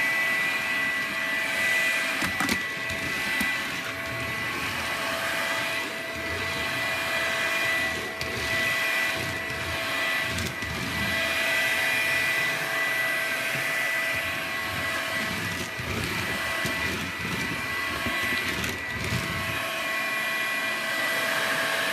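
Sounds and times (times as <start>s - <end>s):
vacuum cleaner motor whine: 0.0s - 21.9s.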